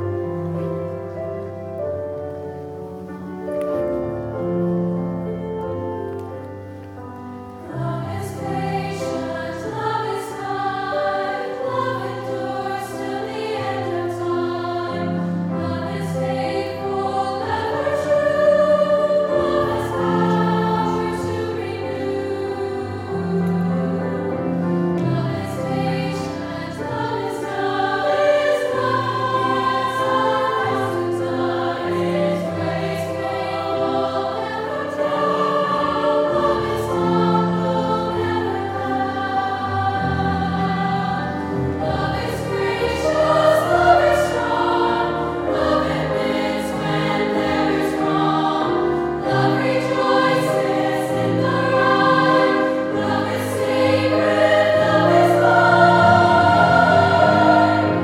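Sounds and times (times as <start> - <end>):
choir singing a sacred piece: 0.0 - 58.0
grand piano: 0.0 - 58.0.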